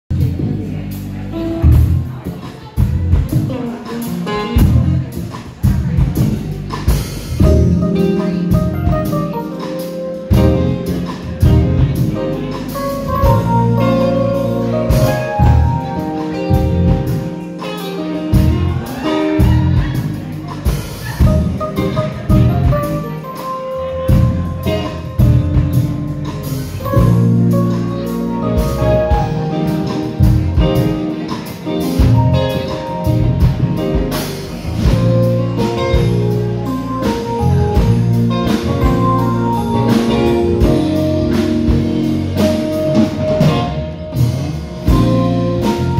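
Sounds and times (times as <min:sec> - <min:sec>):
drum kit steady beat: 0:00.1 - 0:45.9
live band playing: 0:00.1 - 0:45.9.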